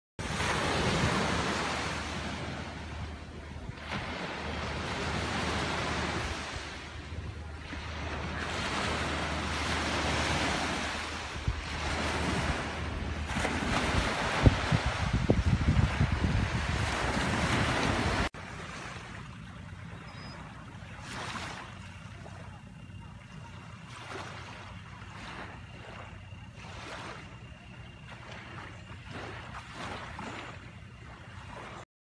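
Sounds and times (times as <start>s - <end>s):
small waves breaking on beach: 0.2s - 31.8s
wind rumble on microphone: 0.2s - 31.8s.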